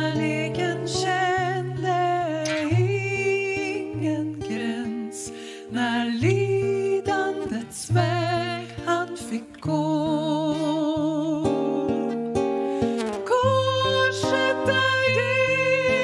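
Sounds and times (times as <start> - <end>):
two women singing: 0.0 - 12.2, 13.2 - 16.0
fingerpicked acoustic guitar: 0.0 - 16.0.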